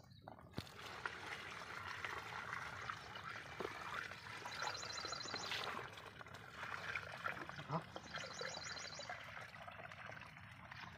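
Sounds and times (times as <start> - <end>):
water pouring into a hose: 0.3 - 10.9.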